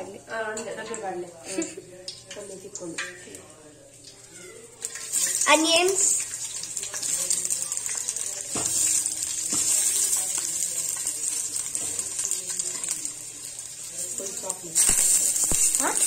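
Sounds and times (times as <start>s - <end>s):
onions sizzling in hot fat: 0.0s - 16.0s.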